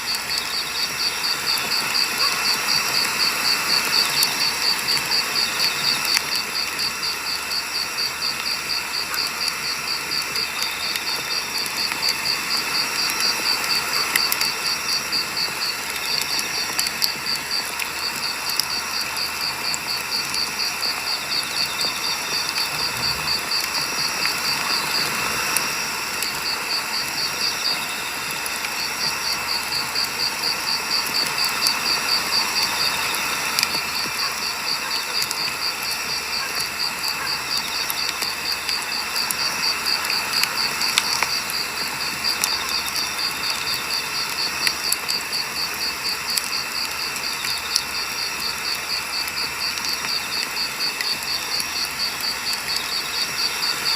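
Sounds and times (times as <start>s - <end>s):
campfire crackling and popping: 0.0s - 53.9s
cricket chirping: 0.0s - 53.9s.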